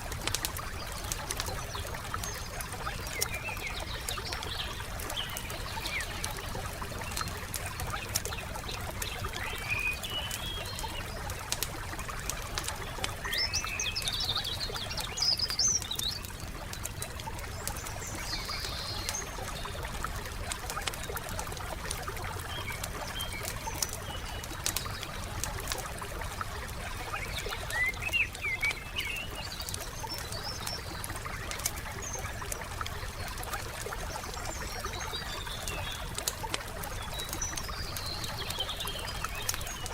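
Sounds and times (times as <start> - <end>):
wood fire crackling: 0.0 - 39.9
small birds chirping: 0.2 - 39.9.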